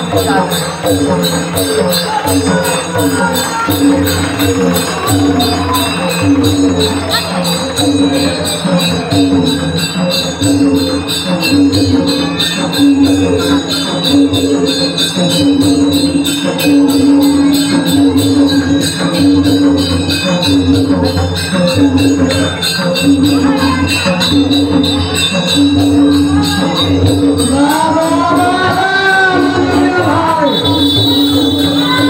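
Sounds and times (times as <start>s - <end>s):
dholak drums: 0.0s - 32.0s
jingling percussion: 0.0s - 32.0s.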